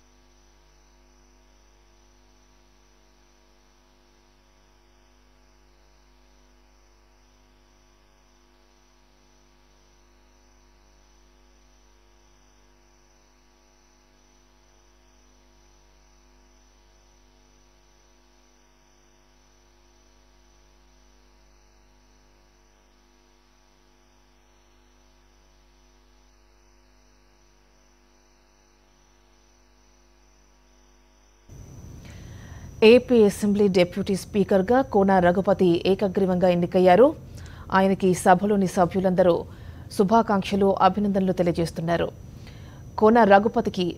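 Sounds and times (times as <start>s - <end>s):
low electrical hum: 0.0s - 43.9s.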